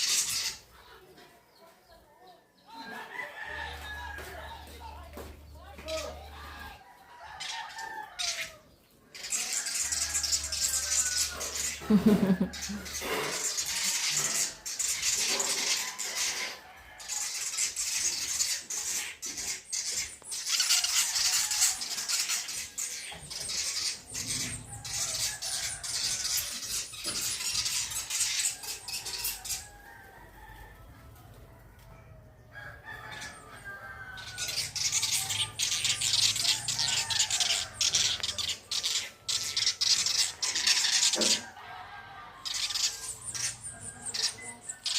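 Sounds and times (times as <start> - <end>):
birds calling: 0.0 - 1.3, 2.6 - 29.9, 32.9 - 41.6, 42.4 - 44.9.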